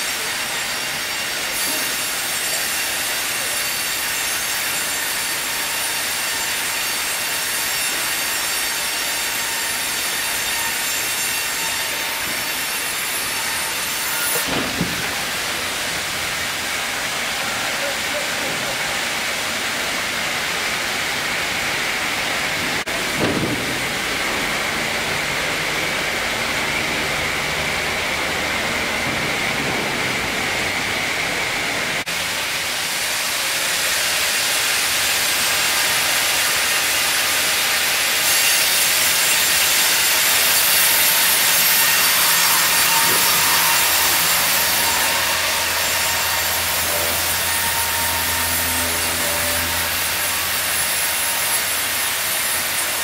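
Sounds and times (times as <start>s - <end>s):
band saws cutting logs: 0.0s - 53.0s
sawmill machinery: 0.0s - 53.0s.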